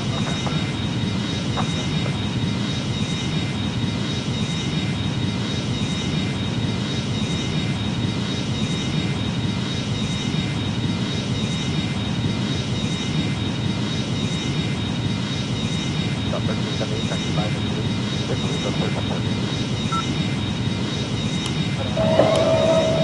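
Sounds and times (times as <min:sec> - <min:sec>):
jet engines rumbling with whine: 0:00.0 - 0:23.0.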